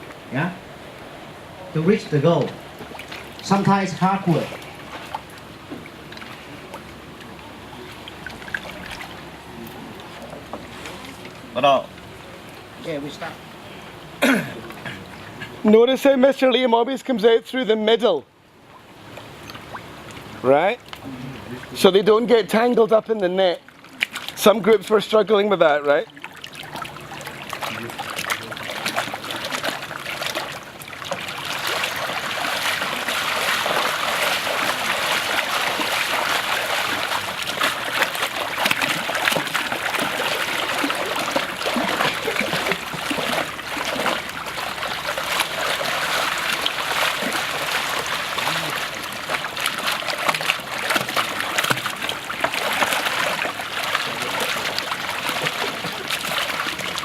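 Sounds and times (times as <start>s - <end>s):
water splashing and sloshing: 0.0s - 16.6s, 18.5s - 57.0s.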